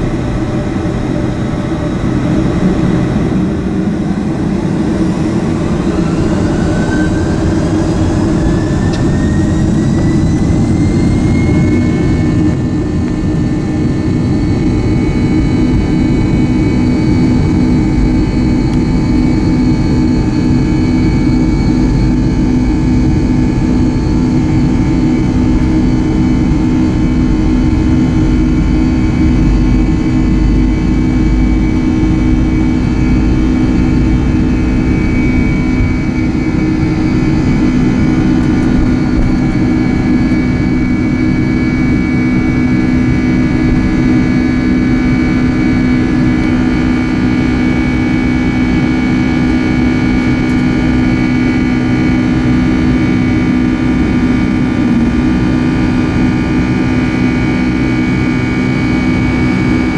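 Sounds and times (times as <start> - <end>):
jet engine spooling up: 0.0 - 59.9.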